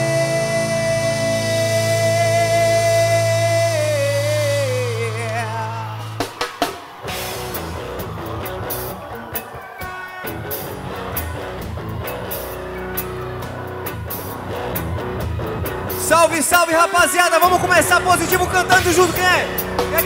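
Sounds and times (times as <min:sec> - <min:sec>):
reggae band playing: 0:00.0 - 0:20.0.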